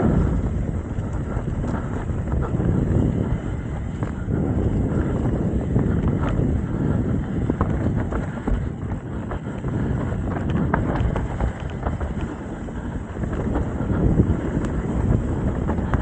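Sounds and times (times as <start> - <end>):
bike clicks and rattles: 0.0 - 16.0
tyres rumbling on dirt: 0.0 - 16.0
wind buffeting microphone: 0.0 - 16.0.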